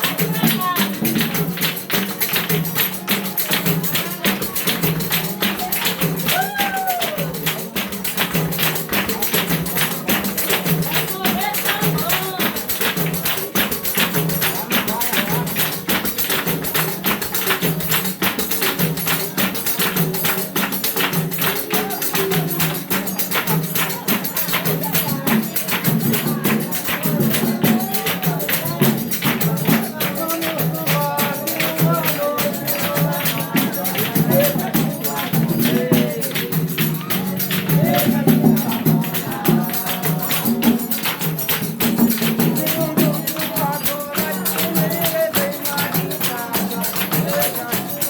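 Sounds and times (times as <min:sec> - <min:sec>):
hand percussion fast rhythm: 0:00.0 - 0:48.0
string instrument or voices: 0:00.0 - 0:48.0
tambourine beat: 0:00.0 - 0:48.0.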